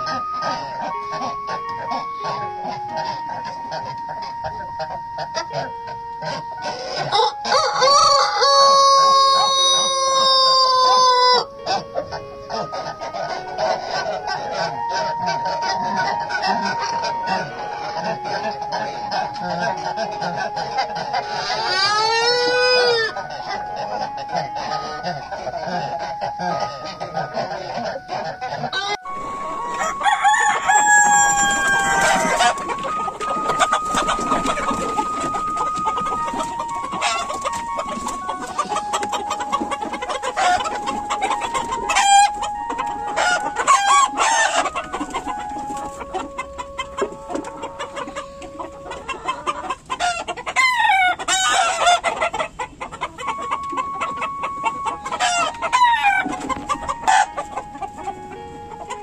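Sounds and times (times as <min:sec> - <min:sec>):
hens clucking: 0:00.0 - 0:59.0
roosters crowing: 0:00.0 - 0:59.0.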